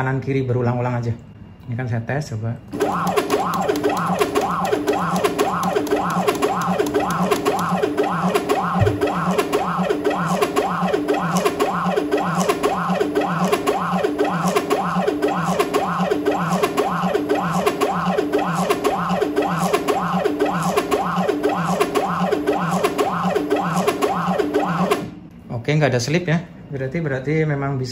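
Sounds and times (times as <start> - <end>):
stepper motors whining: 2.7 - 25.2.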